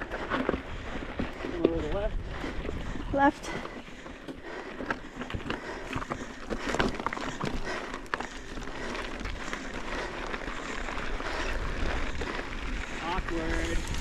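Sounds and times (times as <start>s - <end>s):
bike rattling: 0.0s - 14.0s
bike tyres on dirt and rock: 0.0s - 14.0s.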